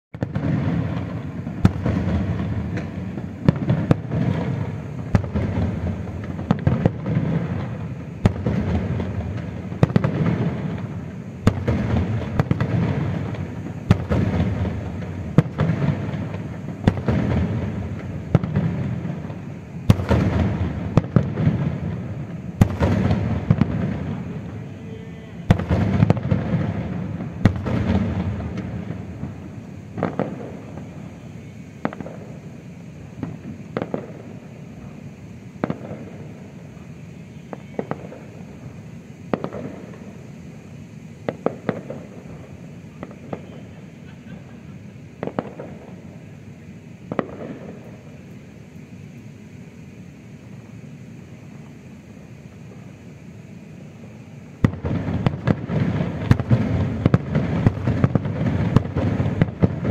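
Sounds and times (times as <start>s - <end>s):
fireworks bangs: 0.1s - 59.9s.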